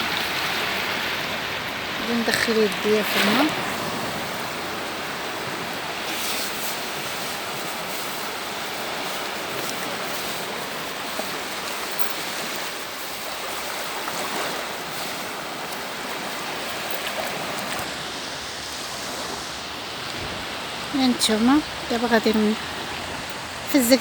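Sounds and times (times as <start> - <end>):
small waves lapping at shore: 0.0 - 24.0.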